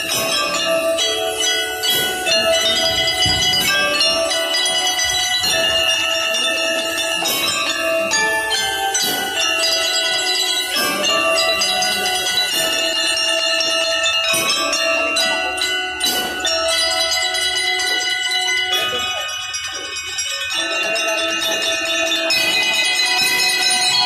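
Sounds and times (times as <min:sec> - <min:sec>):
bell lyres playing melody: 0:00.0 - 0:24.0.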